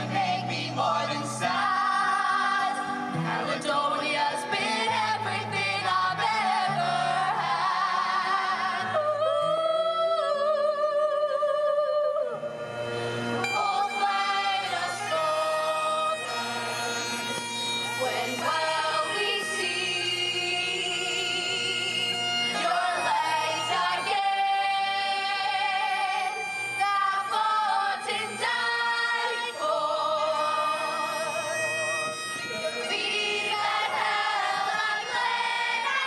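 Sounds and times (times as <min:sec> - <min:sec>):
women singing long notes: 0:00.0 - 0:12.6, 0:13.4 - 0:17.0, 0:18.0 - 0:31.8.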